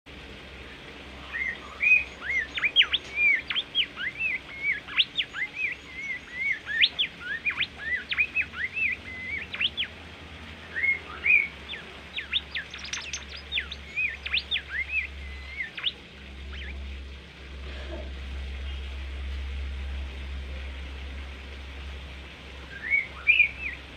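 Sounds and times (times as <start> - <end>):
low steady hum: 0.1 - 23.9
songbird singing: 0.2 - 21.7, 22.3 - 23.9.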